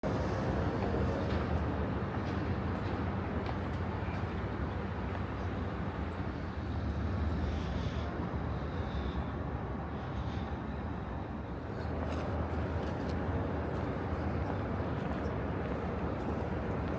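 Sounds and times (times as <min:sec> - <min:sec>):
distant traffic and engines: 0:00.0 - 0:16.9.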